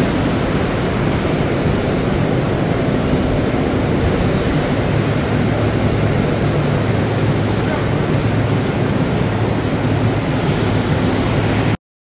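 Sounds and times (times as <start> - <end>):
low machinery hum: 0.0 - 11.8.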